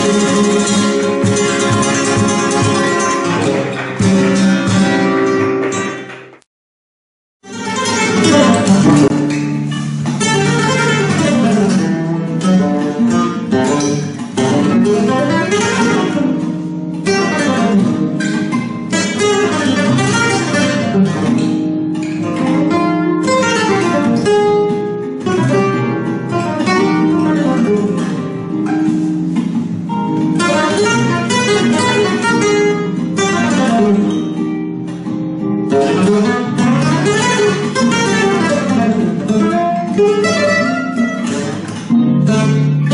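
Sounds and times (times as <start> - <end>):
flamenco guitar playing: 0.0 - 6.4, 7.4 - 42.9.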